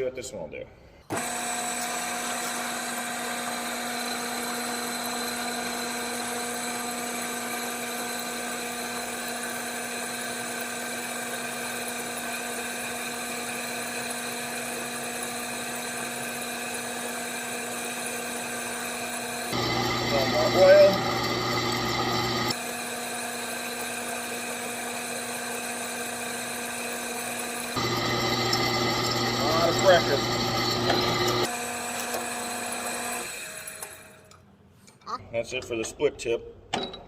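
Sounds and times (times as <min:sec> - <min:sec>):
drill press drilling steel: 0:01.1 - 0:34.3.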